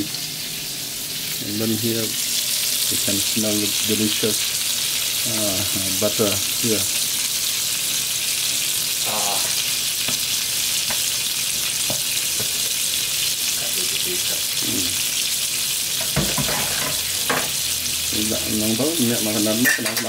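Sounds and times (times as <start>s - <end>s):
beef sizzling in a pan: 0.0s - 20.0s.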